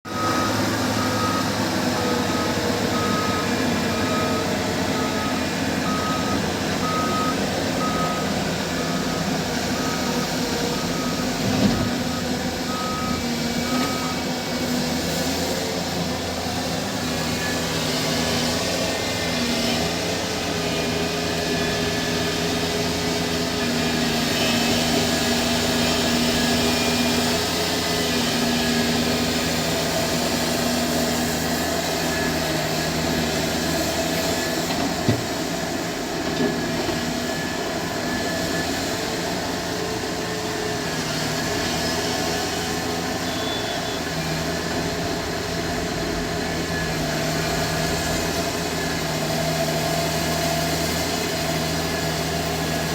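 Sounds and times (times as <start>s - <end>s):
diesel machinery running: 0.0s - 52.9s.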